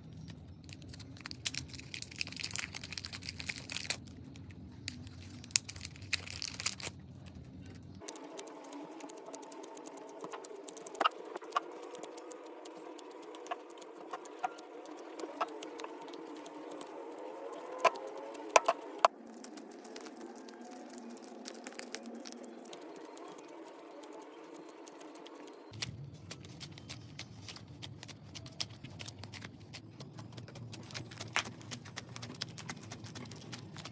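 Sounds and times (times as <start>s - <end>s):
slime squeezed by hand crackling: 0.6s - 4.2s, 4.9s - 7.0s, 8.0s - 33.9s.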